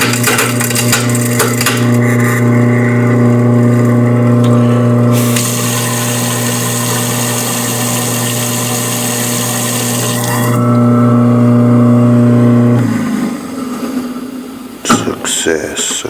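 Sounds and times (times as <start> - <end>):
garbage disposal motor humming: 0.0 - 14.4.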